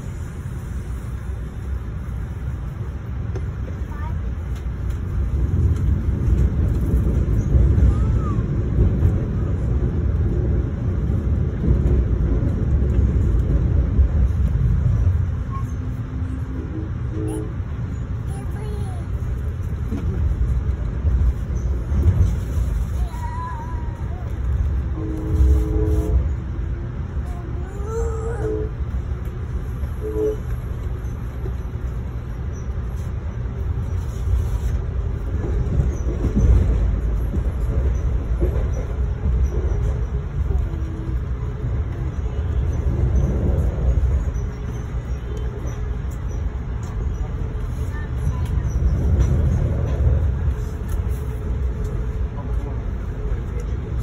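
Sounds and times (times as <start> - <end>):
train rumble from inside car: 0.0 - 54.0.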